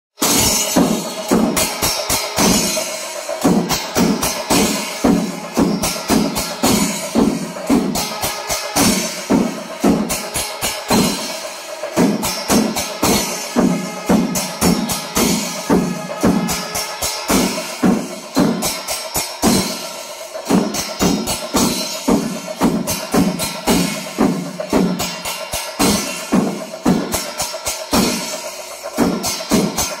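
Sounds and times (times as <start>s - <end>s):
cymbals: 0.2s - 30.0s
drums struck hard: 0.2s - 30.0s.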